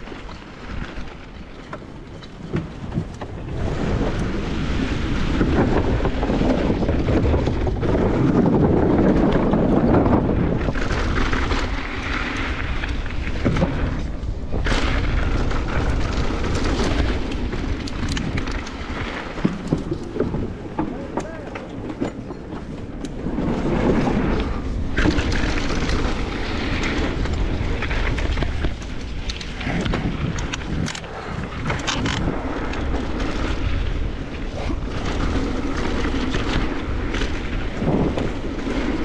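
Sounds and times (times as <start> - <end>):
bike rattling over bumps: 0.0 - 39.0
bike tyres on dirt: 0.0 - 39.0
wind buffeting microphone: 0.0 - 39.0.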